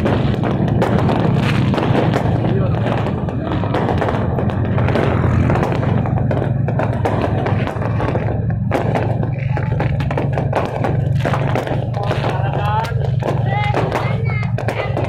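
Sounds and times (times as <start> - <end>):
fireworks popping and crackling: 0.0 - 15.0
low rumble: 0.0 - 15.0.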